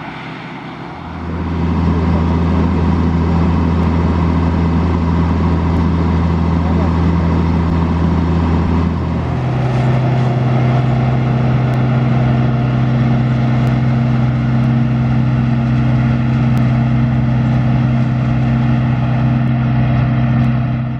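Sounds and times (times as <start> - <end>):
combine harvester engine running: 0.0 - 20.9
tractor diesel engine running: 0.0 - 20.9.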